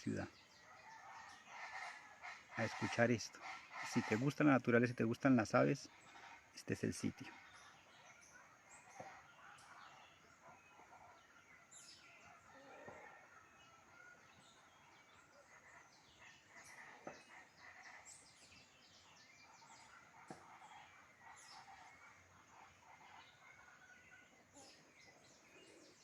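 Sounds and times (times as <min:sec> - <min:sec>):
birds chirping and warbling: 0:00.0 - 0:26.0.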